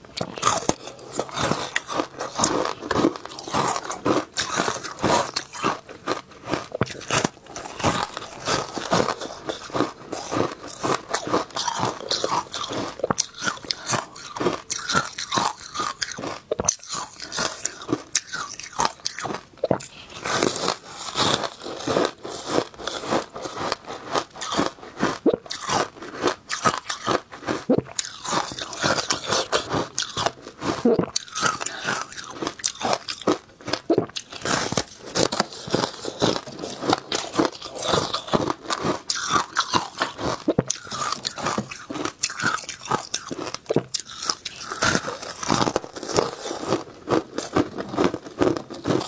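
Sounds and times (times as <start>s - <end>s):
crunching shaved ice: 0.2s - 49.0s.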